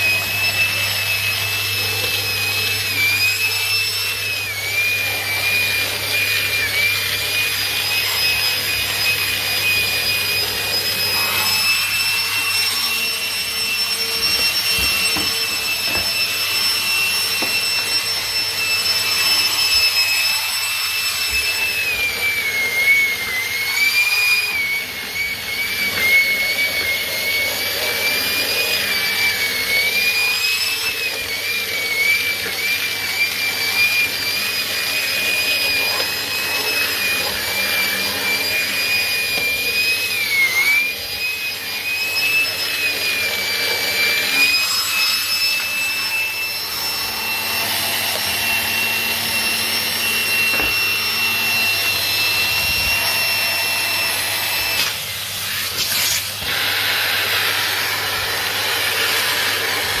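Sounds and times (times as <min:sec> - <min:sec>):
vacuum cleaner motor whine: 0:00.0 - 1:00.0.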